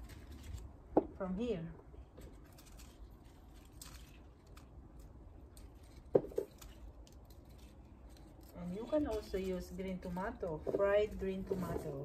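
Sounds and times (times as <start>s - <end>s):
rustling plant foliage: 0.0s - 12.0s.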